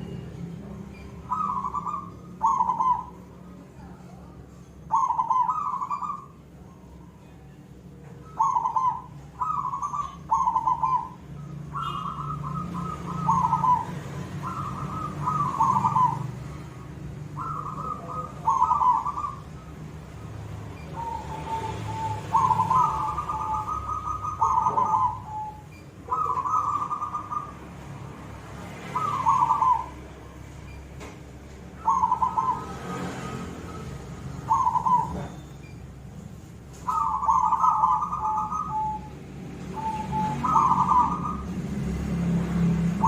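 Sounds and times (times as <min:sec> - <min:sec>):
dove cooing: 0:01.2 - 0:07.0, 0:08.2 - 0:20.1, 0:20.7 - 0:27.7, 0:28.7 - 0:30.3, 0:31.8 - 0:35.4, 0:36.8 - 0:41.8.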